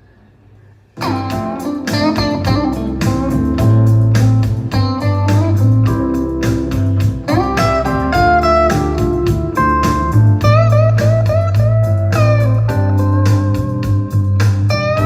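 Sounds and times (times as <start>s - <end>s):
guitar music with heavy bass: 1.0s - 15.0s.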